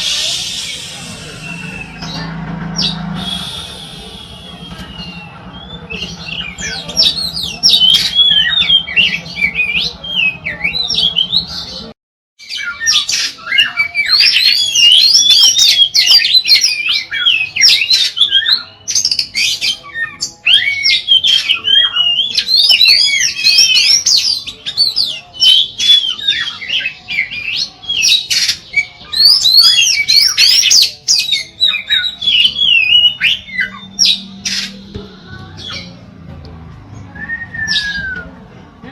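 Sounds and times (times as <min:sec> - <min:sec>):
bird singing whistles and chatter: 0:00.0 - 0:36.1, 0:37.0 - 0:38.5.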